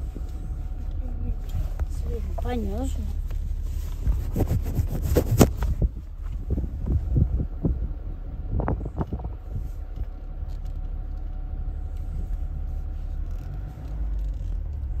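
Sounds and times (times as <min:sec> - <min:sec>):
phone microphone handling rumble: 0:00.0 - 0:15.0.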